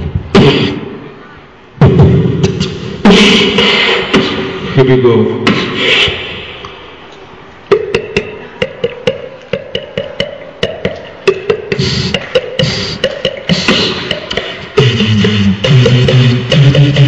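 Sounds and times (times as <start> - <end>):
beatboxing mouth clicks: 2.4 - 4.8, 5.4 - 17.0.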